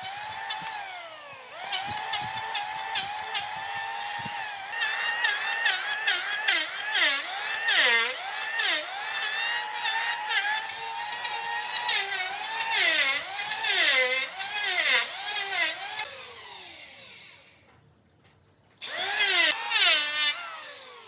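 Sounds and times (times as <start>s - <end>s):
power tool motor whine: 0.0s - 17.6s, 18.8s - 21.0s.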